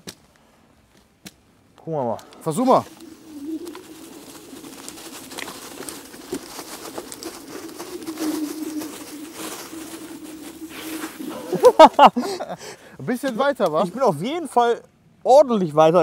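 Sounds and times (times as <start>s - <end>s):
tyres crackling on forest floor: 0.9s - 14.3s.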